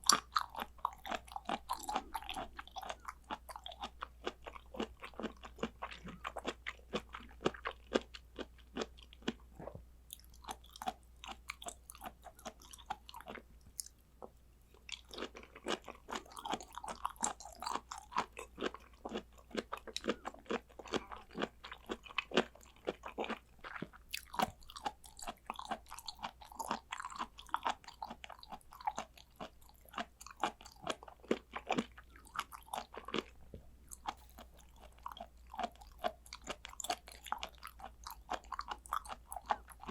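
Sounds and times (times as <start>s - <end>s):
chewing with smacking mouth sounds: 0.0s - 39.9s.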